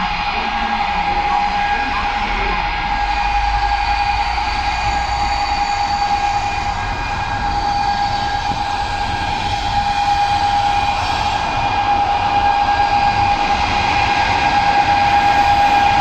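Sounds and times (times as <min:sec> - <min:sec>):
freight train rumble: 0:00.0 - 0:16.0
steady high-pitched train tone: 0:00.0 - 0:16.0.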